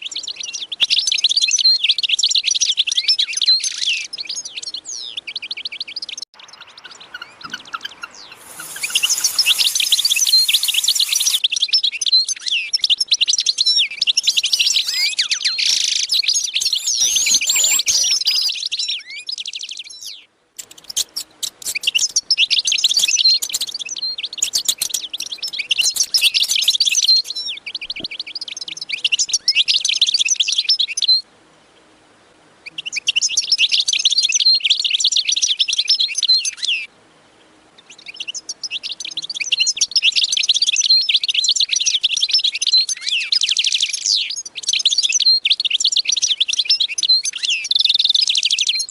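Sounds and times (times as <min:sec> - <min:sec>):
flock of small birds chirping: 0:00.0 - 0:31.3, 0:32.6 - 0:48.9.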